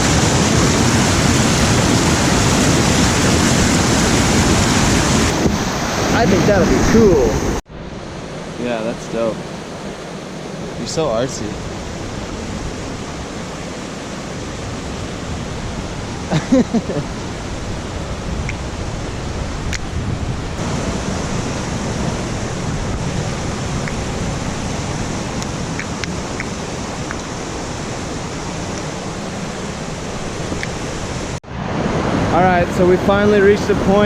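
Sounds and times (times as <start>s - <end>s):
waterfall roaring: 0.0s - 7.6s, 8.4s - 34.0s.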